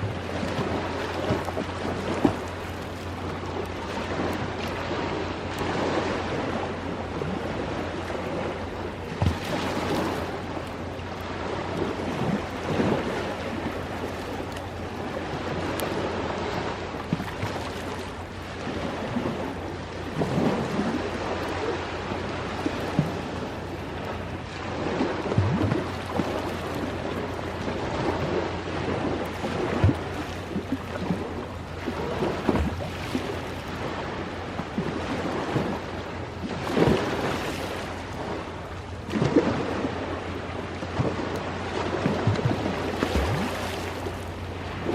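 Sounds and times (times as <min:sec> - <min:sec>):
ocean waves washing ashore: 0:00.0 - 0:44.9.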